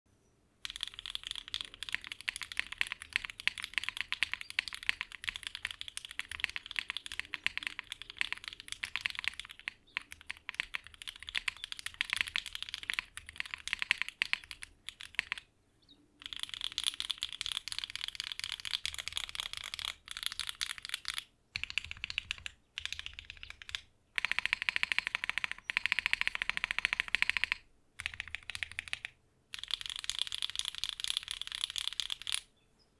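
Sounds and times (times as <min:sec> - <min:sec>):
mechanical keyboard typing: 0:00.6 - 0:15.5, 0:16.2 - 0:32.5.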